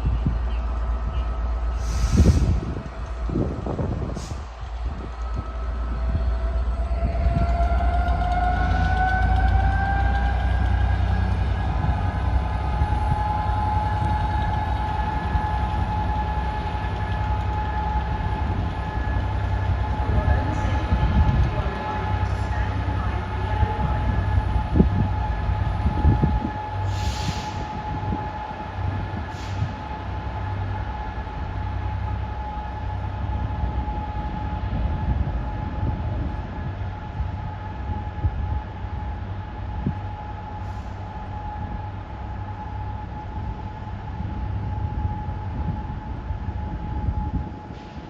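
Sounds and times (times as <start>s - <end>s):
train rumbling: 0.0s - 48.0s
train whine: 0.0s - 48.0s.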